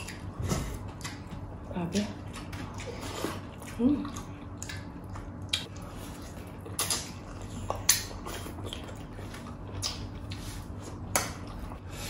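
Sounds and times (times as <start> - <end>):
chewing: 0.0 - 11.8.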